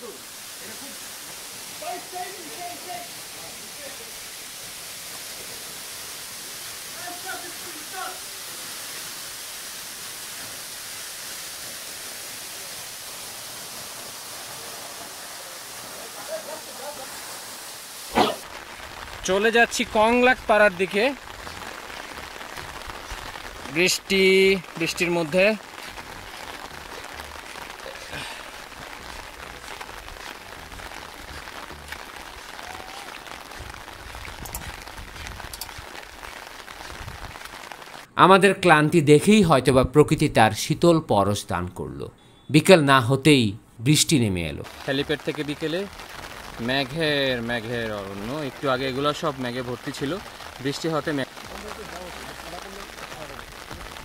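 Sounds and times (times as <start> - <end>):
small waterfall rushing: 0.0 - 38.1, 44.6 - 54.0
rain on road and grass: 0.0 - 38.2, 44.2 - 54.0.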